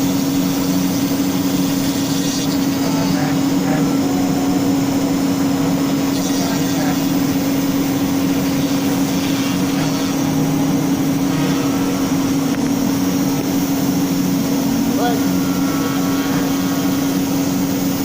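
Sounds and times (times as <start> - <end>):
router spindle humming: 0.0 - 18.0.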